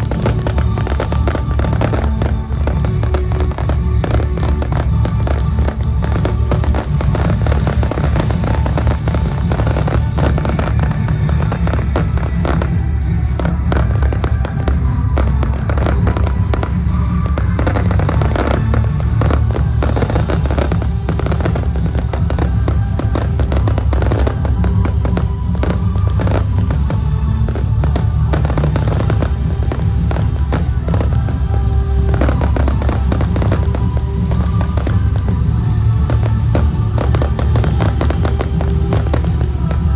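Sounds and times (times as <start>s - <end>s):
fireworks bangs and crackles: 0.0s - 39.9s
music playing: 0.0s - 39.9s.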